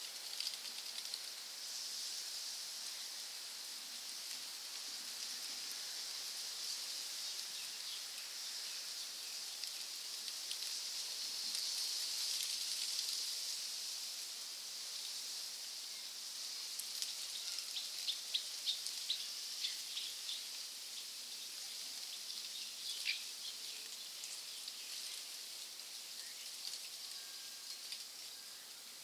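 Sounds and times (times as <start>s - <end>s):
rainforest high hiss: 0.0s - 29.0s.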